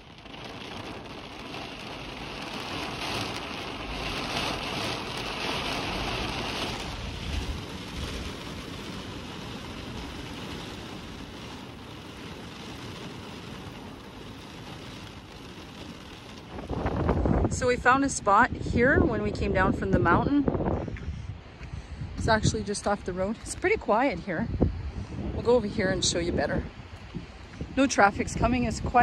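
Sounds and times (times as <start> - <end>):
rain hissing: 0.0 - 29.0
wind rumbling: 0.0 - 29.0.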